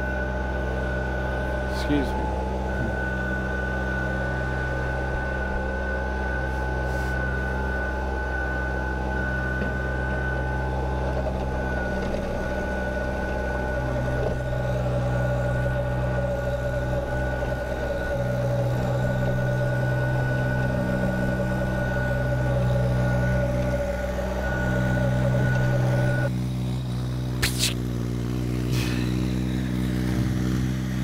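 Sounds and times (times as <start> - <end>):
diesel tractor engine running: 0.0 - 31.0
rotary tiller in soil: 0.0 - 31.0
steady high whine: 0.0 - 31.0.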